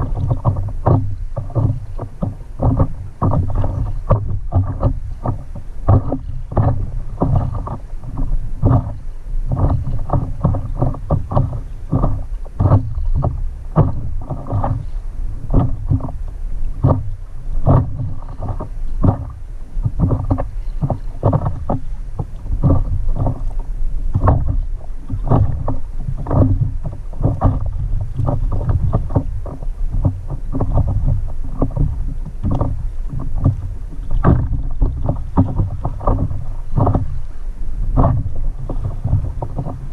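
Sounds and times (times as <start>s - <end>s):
low rumble: 0.0s - 39.9s
paddle strokes: 0.0s - 39.9s
water slapping around paddleboard: 0.0s - 39.9s.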